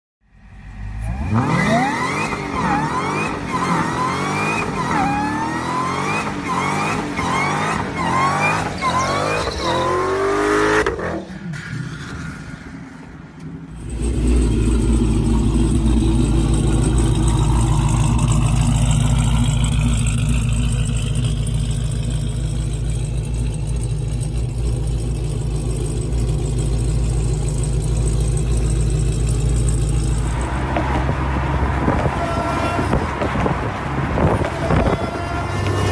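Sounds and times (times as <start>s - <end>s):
car engine revving: 0.5s - 11.2s, 13.8s - 35.9s.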